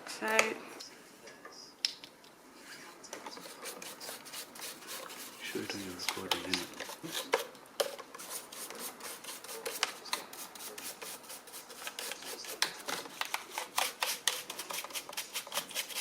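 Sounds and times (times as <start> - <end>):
hands scraping plastic vacuum parts: 3.2 - 16.0.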